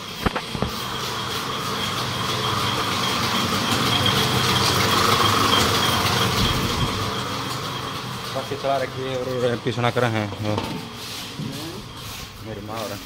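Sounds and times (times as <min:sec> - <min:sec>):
flour mill motor hum: 0:00.0 - 0:13.0
grinding noise: 0:00.0 - 0:13.0.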